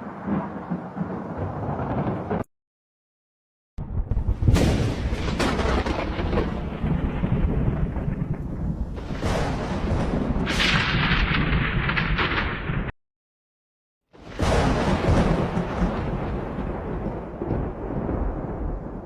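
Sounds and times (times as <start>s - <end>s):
thunder crack and rumble: 0.0s - 2.5s, 3.8s - 13.0s, 14.2s - 19.0s.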